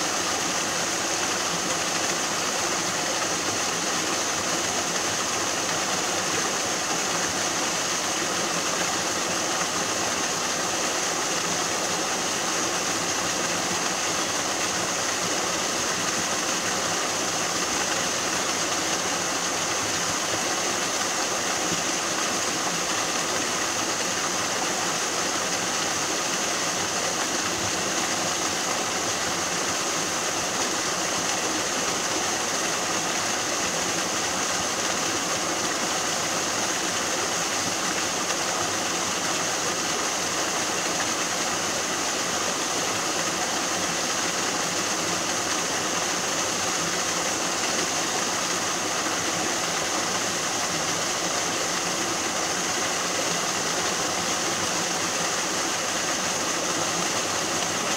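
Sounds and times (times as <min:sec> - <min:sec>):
waterfall pouring over rocks: 0:00.0 - 0:57.9.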